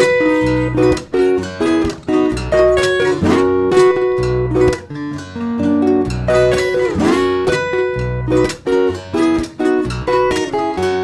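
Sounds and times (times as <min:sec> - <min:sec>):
fingerstyle acoustic guitar: 0:00.0 - 0:11.0.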